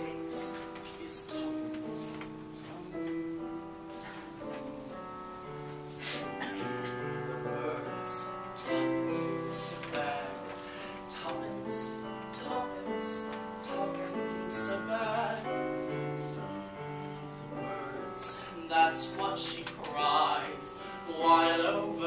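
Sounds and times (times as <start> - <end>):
person singing a slow ballad: 0.0 - 4.9, 6.0 - 22.0
piano accompaniment: 0.0 - 22.0.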